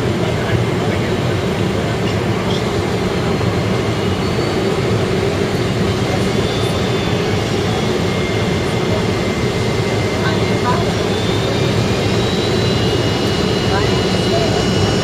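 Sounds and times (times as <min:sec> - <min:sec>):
airliner cabin engine and airflow rush: 0:00.0 - 0:15.0.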